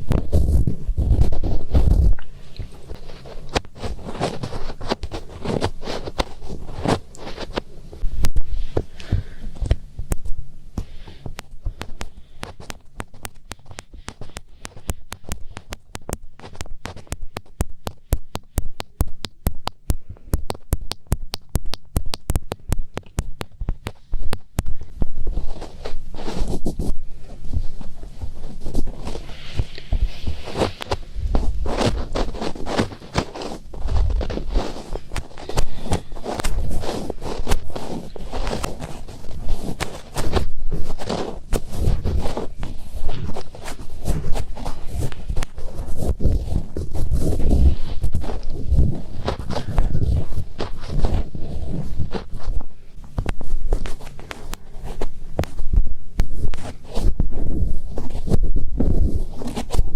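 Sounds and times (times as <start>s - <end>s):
fingertips rubbing microphone: 0.0s - 59.9s.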